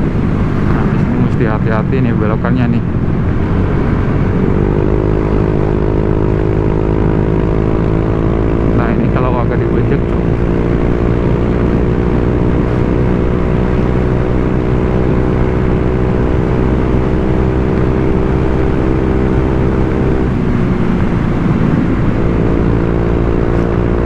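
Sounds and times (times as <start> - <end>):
scooter engine running: 2.8 - 24.0.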